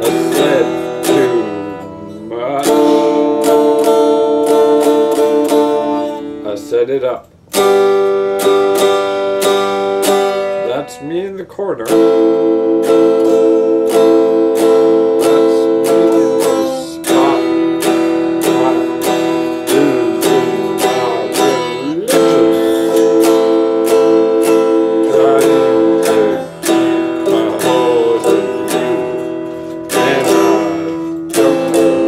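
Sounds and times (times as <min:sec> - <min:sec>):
electric guitar strumming chords: 0:00.0 - 0:32.0.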